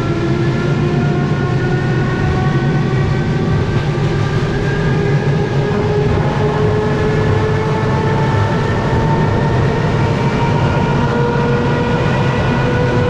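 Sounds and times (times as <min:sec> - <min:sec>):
train low rumble: 0:00.0 - 0:13.0
train whining tones: 0:00.0 - 0:13.0.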